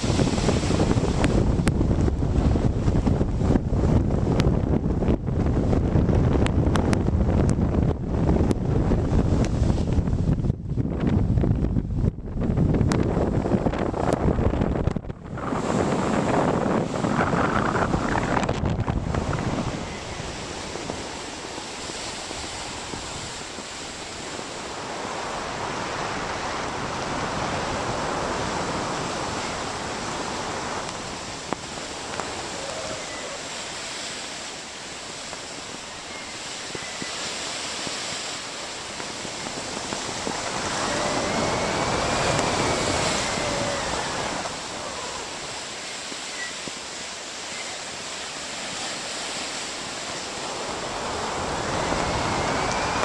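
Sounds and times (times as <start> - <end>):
sea water rushing along a hull: 0.0 - 53.0
wind: 0.0 - 53.0.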